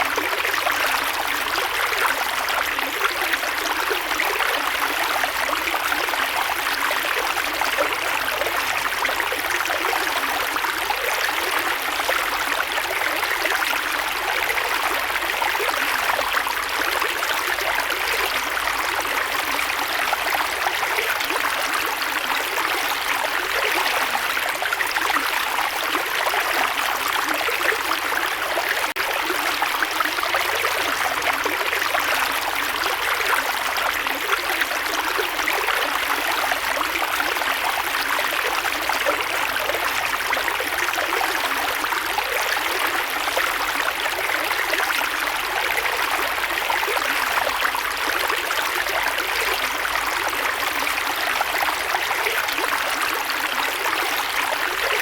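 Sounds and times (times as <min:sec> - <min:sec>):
creek water flowing over rocks: 0:00.0 - 0:55.0.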